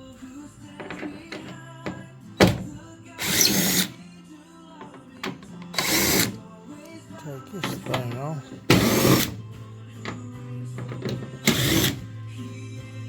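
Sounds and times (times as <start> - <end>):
background music with held notes: 0.0 - 13.0.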